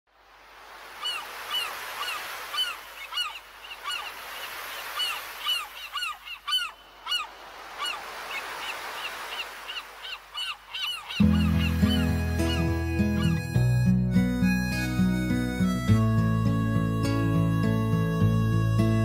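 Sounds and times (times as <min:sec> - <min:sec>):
gulls calling: 0:00.8 - 0:19.0.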